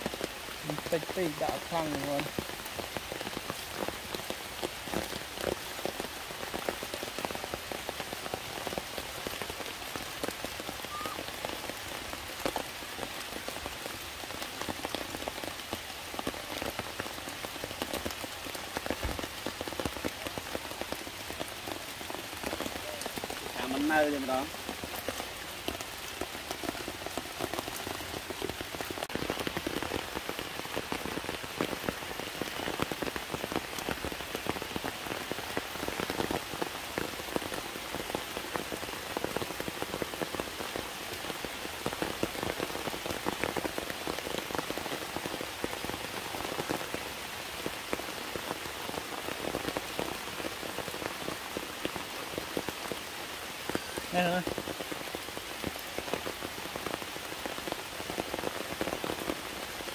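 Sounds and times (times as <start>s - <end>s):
heavy rain on leaves and rock: 0.0s - 59.9s.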